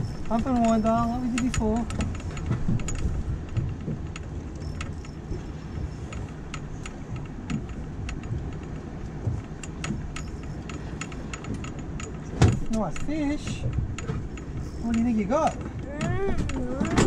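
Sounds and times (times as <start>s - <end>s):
gear clicking and rattling: 0.0s - 17.0s
outboard motor rumble: 0.0s - 17.0s.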